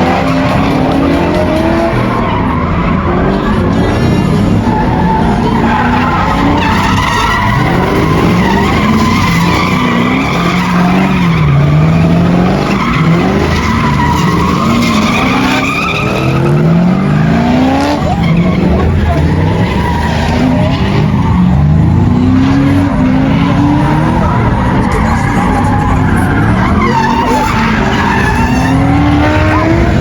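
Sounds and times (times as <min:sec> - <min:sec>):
car engine revving: 0:00.0 - 0:30.0
tyres squealing: 0:00.0 - 0:30.0.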